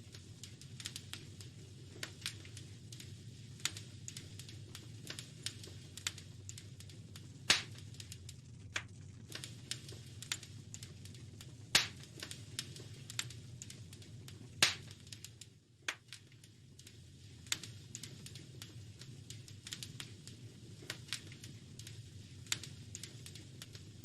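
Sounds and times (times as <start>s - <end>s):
fire low rumble: 0.0s - 24.0s
wood fire crackling: 0.0s - 24.0s
sharp fire pops: 0.1s - 24.0s.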